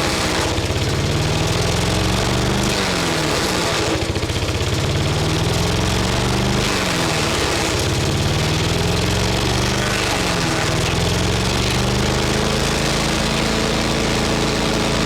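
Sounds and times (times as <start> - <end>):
wood chipper engine running: 0.0 - 15.0.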